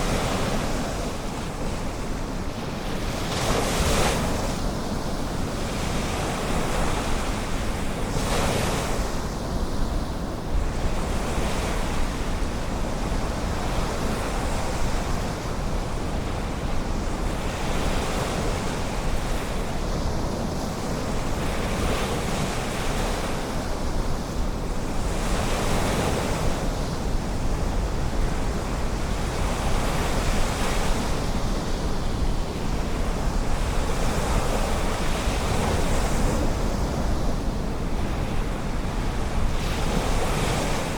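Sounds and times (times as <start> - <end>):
ocean waves washing onto beach: 0.0 - 40.9
wind rumble on microphone: 0.0 - 40.9.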